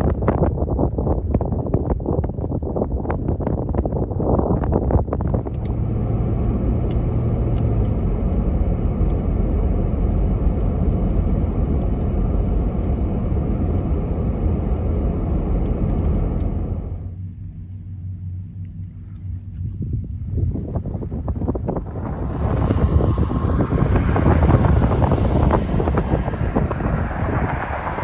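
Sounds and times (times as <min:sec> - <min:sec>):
wind buffeting microphone: 0:00.0 - 0:14.8, 0:19.0 - 0:28.0
car rumbling on road: 0:00.0 - 0:28.0.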